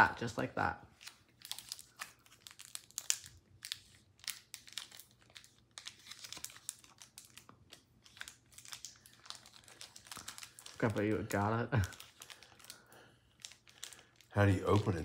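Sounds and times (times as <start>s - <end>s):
wrapper crinkling: 0.9s - 15.0s.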